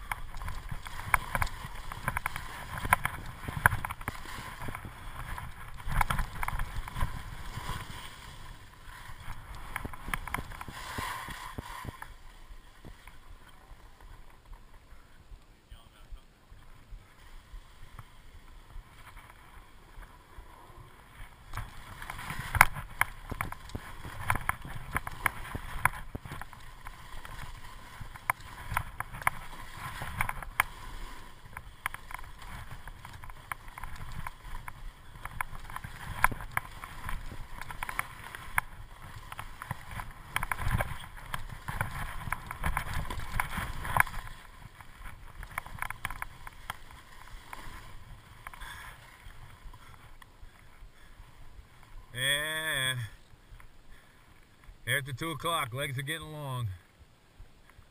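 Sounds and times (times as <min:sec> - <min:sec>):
skis scraping over packed snow: 0:00.0 - 0:57.9.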